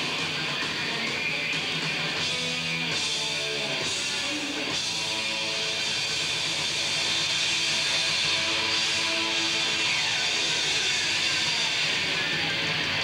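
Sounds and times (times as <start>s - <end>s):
electric guitar solo: 0.0s - 13.0s.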